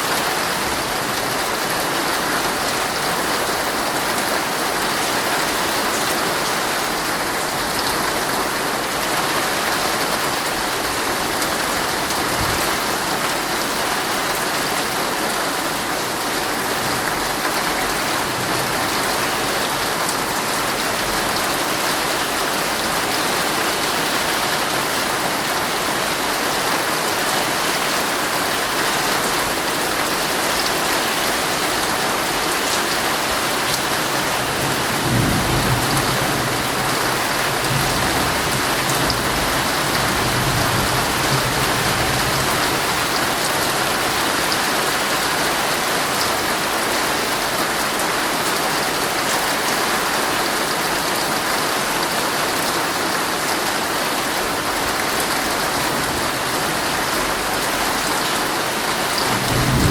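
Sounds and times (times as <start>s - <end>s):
heavy rain on a tent: 0.0s - 59.9s.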